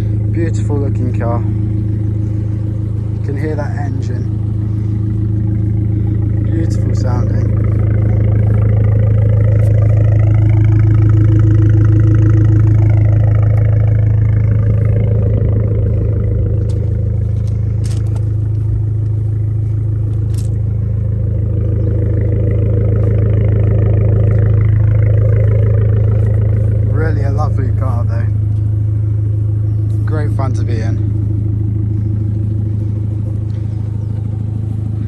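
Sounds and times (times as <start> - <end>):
car engine running: 0.0 - 35.0.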